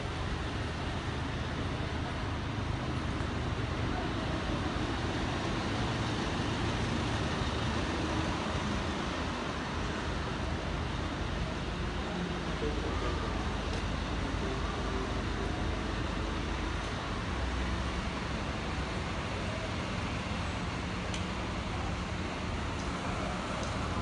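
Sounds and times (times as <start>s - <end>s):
bus engine rumbling: 0.0s - 24.0s
road traffic: 0.0s - 24.0s.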